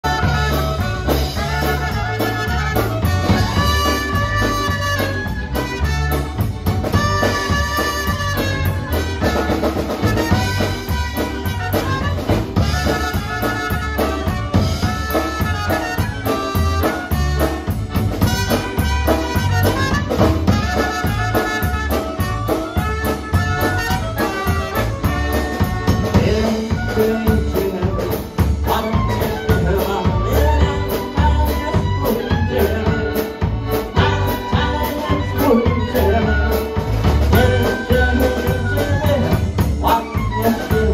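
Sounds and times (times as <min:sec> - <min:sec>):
live band playing dance tune: 0:00.0 - 0:40.9.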